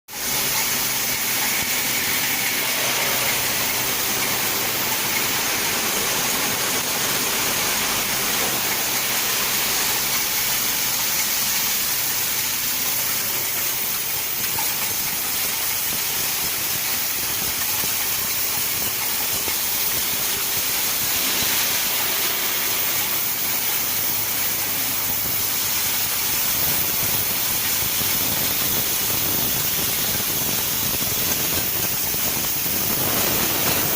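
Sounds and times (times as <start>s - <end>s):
machine hissing: 0.1s - 33.9s.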